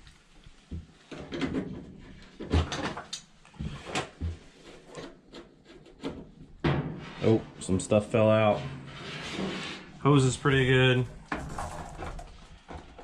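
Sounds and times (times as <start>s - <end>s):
hose knocking and scraping: 0.6s - 13.0s.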